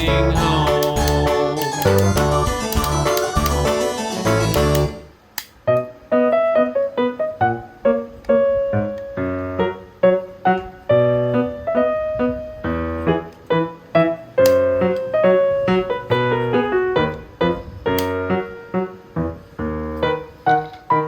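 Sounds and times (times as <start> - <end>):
piano-like keyboard melody: 0.0 - 21.0.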